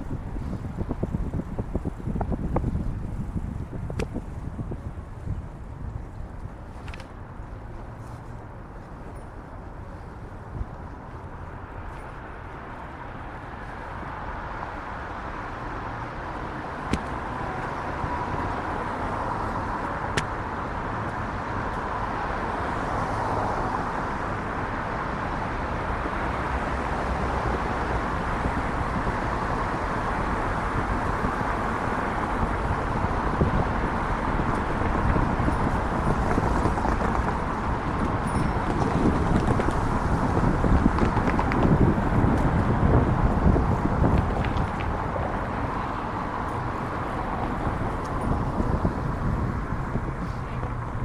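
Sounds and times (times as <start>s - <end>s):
city street traffic: 0.0s - 51.0s.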